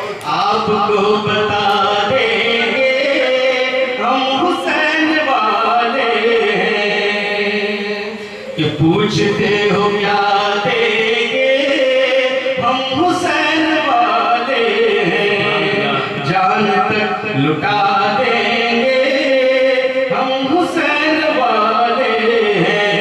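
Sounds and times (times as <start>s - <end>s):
man chanting through microphone: 0.0s - 23.0s.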